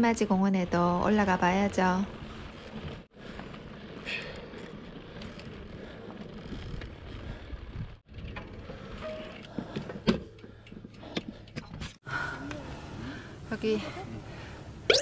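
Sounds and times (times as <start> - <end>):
road noise of bike ride: 0.0 - 14.9.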